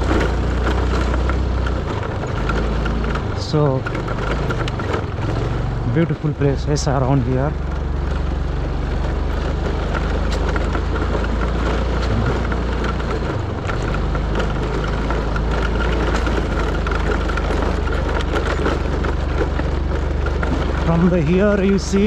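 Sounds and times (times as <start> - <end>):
small rattles and clicks: 0.0 - 22.0
vehicle rumble on dirt track: 0.0 - 22.0.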